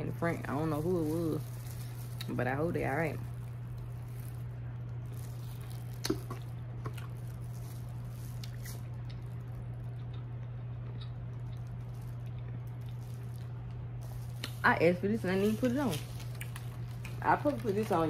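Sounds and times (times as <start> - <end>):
steady low hum: 0.0 - 18.0
wet squishing of chewing: 1.3 - 2.3, 3.2 - 14.7, 15.6 - 17.9.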